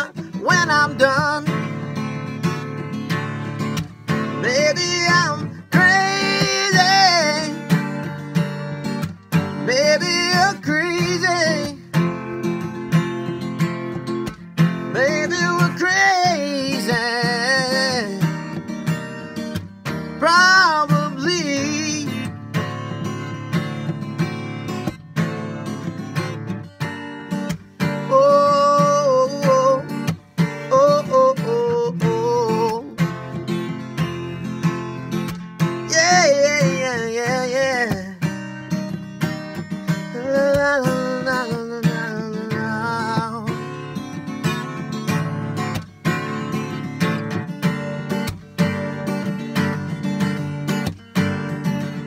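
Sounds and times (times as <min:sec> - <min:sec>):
man singing: 0:00.0 - 0:13.7, 0:14.6 - 0:24.2, 0:27.8 - 0:46.9
acoustic guitar strumming: 0:00.0 - 0:52.0.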